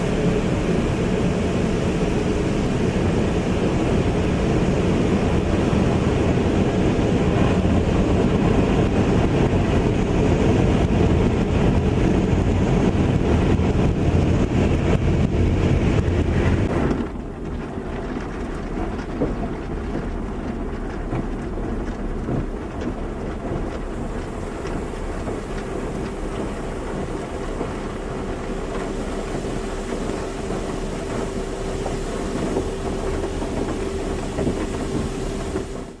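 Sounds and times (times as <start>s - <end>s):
car wash rushing and rumbling: 0.0s - 36.0s.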